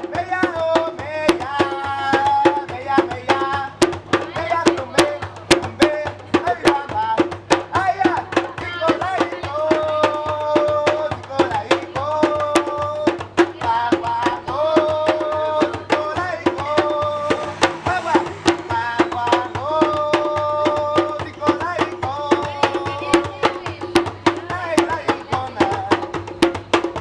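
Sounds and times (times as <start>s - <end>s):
hand drums steady rhythm: 0.0s - 27.0s.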